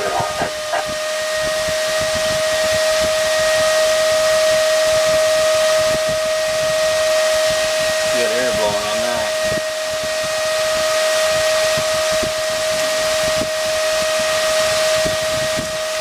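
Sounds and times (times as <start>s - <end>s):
server fan whine: 0.0s - 16.0s.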